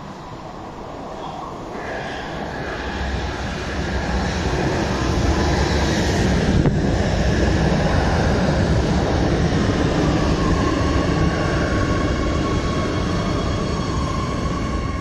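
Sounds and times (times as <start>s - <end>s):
train decelerating whine: 0.0s - 15.0s
train rumbling: 0.0s - 15.0s.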